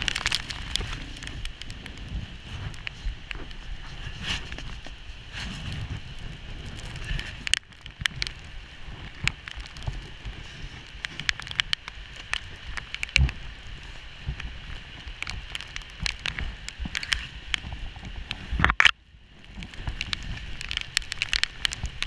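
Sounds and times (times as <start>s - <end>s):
dirt bike on rough trail: 0.0s - 22.0s
steady hiss: 0.0s - 22.0s.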